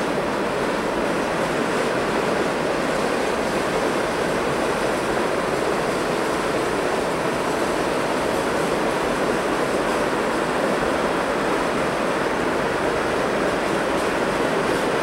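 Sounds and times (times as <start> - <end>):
freight train rolling on bridge: 0.0 - 15.0.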